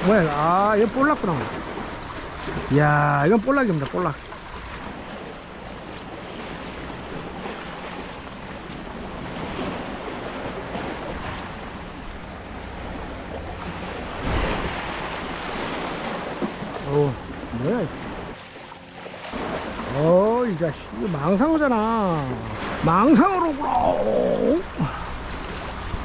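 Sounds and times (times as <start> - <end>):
sea waves washing in: 0.0 - 26.0.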